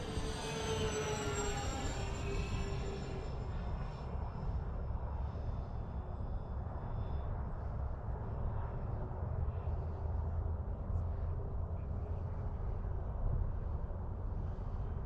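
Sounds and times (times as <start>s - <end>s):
wind rumble on microphone: 2.2s - 15.0s.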